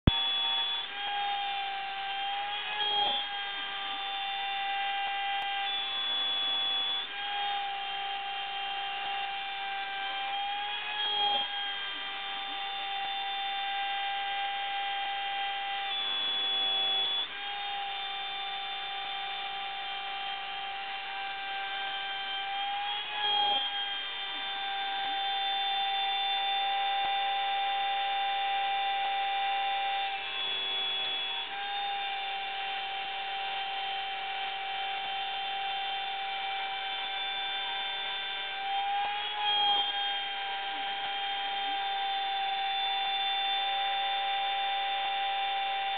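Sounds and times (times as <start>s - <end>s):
router motors whining: 0.0s - 45.9s.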